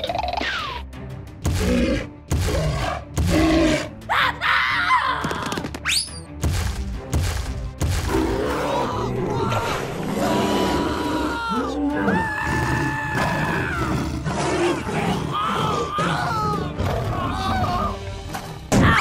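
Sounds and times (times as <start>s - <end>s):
cartoon background music: 0.0s - 19.0s.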